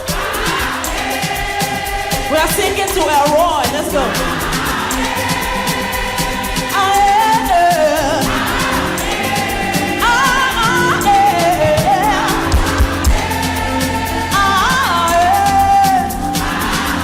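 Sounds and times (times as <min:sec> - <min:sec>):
church band playing: 0:00.0 - 0:17.0
singer and congregation singing: 0:00.0 - 0:17.0.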